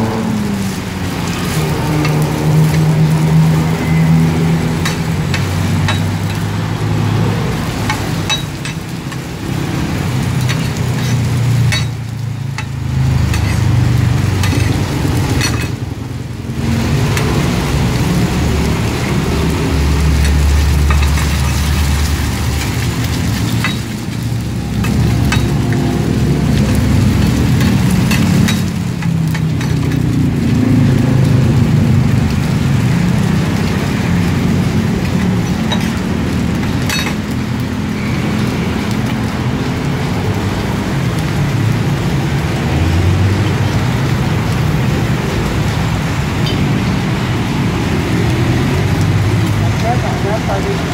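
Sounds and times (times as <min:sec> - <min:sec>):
oil sizzling and crackling: 0:00.0 - 0:50.9.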